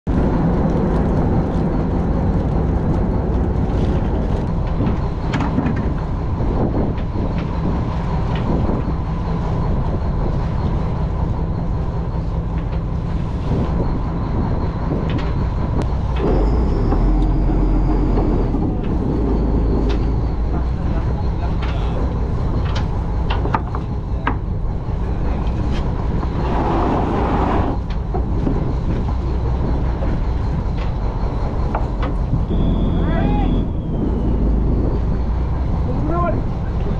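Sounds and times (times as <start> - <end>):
boat engine rumbling: 0.0 - 36.9.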